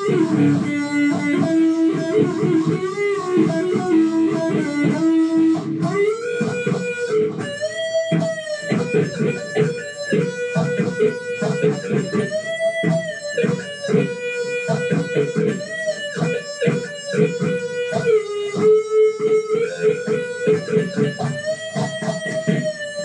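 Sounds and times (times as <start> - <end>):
electric guitar bent notes: 0.0 - 23.0
picked low guitar notes: 0.0 - 23.0.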